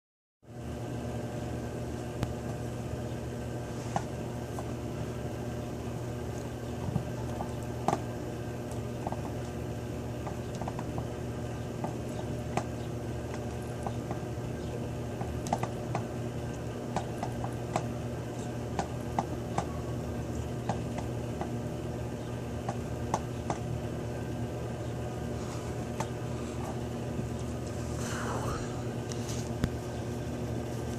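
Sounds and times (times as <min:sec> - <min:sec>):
low mechanical hum: 0:00.4 - 0:30.9.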